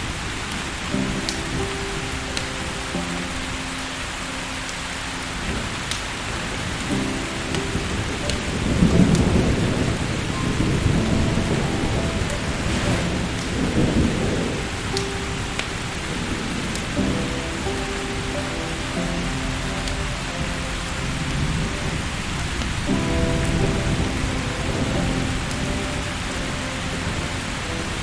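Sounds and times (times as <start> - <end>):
steady rain falling: 0.0 - 28.0
rolling thunder: 4.8 - 28.0.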